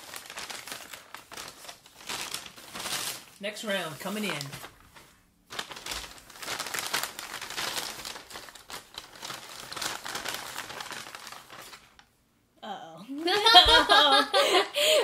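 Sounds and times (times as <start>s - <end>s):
paper bags crinkling: 0.0s - 12.1s.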